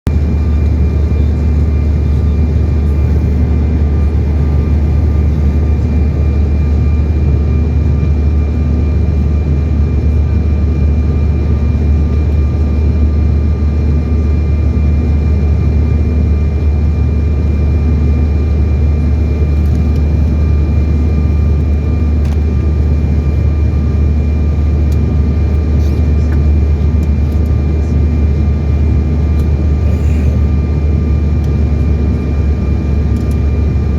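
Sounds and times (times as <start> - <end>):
jet airliner rumble: 0.1 - 33.9.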